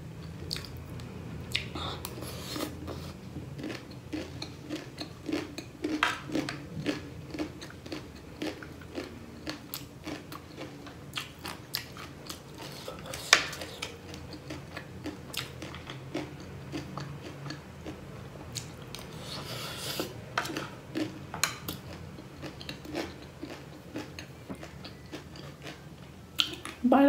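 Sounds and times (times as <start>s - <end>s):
chewing crunchy food: 0.2s - 26.8s.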